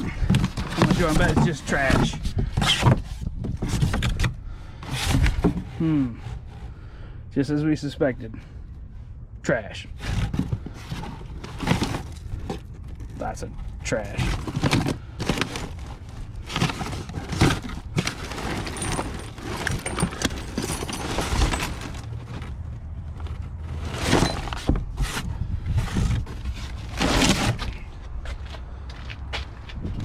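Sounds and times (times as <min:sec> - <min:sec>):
trash rustling and crinkling: 0:00.0 - 0:06.9, 0:09.9 - 0:30.0.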